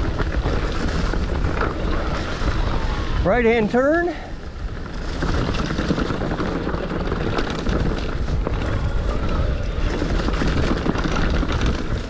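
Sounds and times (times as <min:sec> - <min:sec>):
bike rattling: 0:00.0 - 0:12.0
wind on microphone: 0:00.0 - 0:12.0.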